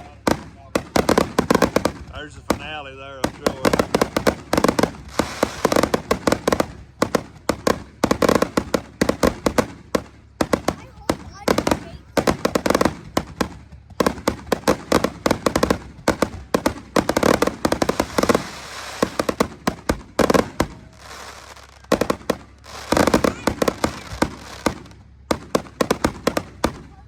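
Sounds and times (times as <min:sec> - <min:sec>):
fireworks shells bursting: 0:00.0 - 0:27.0.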